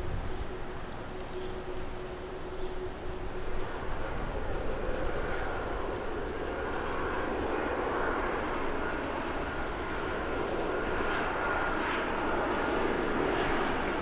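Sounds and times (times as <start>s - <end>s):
faint high whine: 0.0s - 14.0s
jet engine noise: 0.0s - 14.0s.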